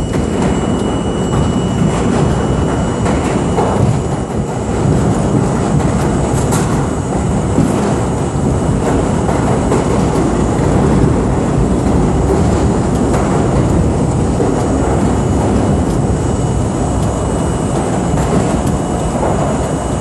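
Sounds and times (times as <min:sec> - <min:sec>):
subway train wheels rumbling on rails: 0:00.0 - 0:20.0.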